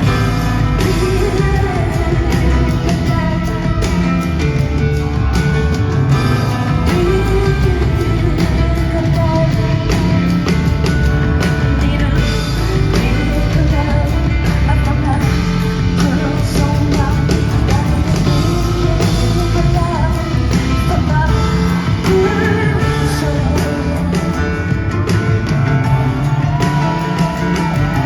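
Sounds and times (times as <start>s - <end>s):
woman singing: 0.0s - 4.9s, 6.2s - 28.0s
live rock band: 0.0s - 28.0s.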